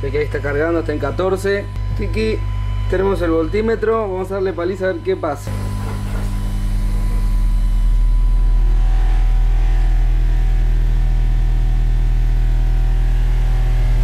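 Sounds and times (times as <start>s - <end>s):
low bass test tone: 0.0s - 14.0s.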